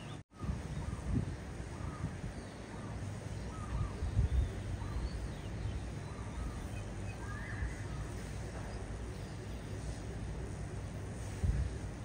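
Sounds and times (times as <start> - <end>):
faint bird calls: 0.0 - 10.1
distant background noise: 0.0 - 12.0
low wind rumble: 0.0 - 12.0.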